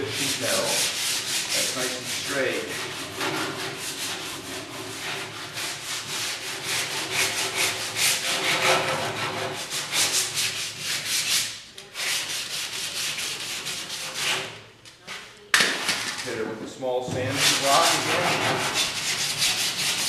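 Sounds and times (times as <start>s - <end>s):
sandpaper rubbing body filler: 0.0s - 14.6s, 17.2s - 20.0s.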